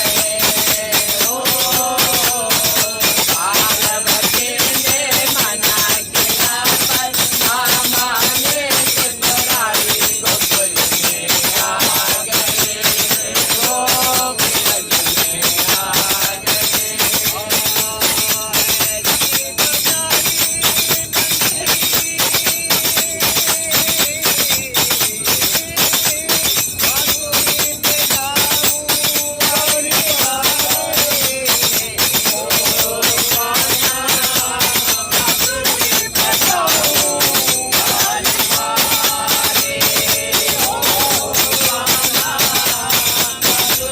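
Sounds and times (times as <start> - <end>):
jingling hand percussion: 0.0 - 43.9
voices singing together: 0.0 - 43.9.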